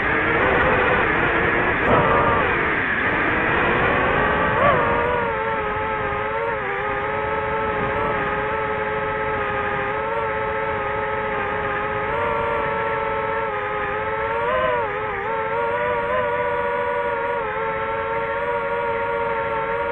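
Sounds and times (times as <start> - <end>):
drone propellers whining: 0.0 - 19.9.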